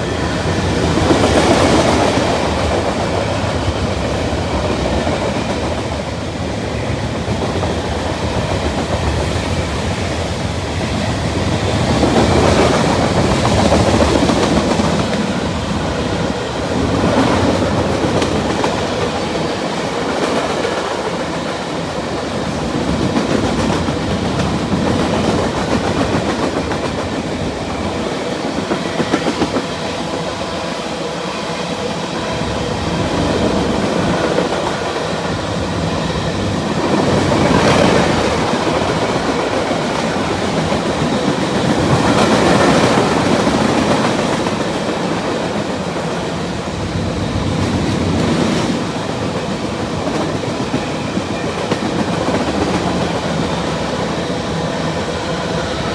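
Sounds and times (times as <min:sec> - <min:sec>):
freight train wheels clattering: 0:00.0 - 0:55.9.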